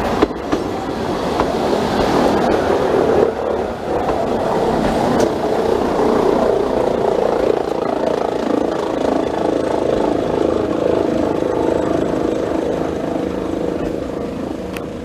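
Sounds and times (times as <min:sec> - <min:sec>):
railcar whirring drone: 0:00.0 - 0:15.0
wheels running on rails: 0:00.0 - 0:15.0.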